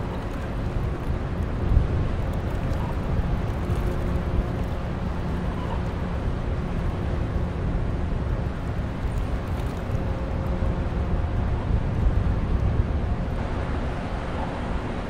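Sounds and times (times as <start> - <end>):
faint constant hum: 0.0 - 15.0
ship engine rumble: 0.0 - 15.0.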